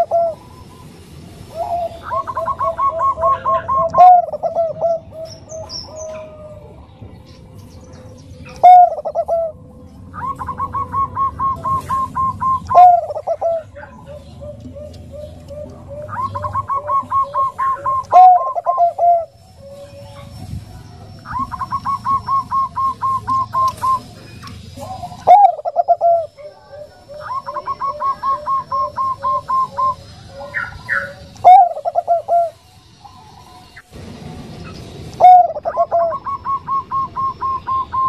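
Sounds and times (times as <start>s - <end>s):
dove cooing: 0.0s - 7.2s, 8.0s - 34.0s, 34.6s - 38.0s.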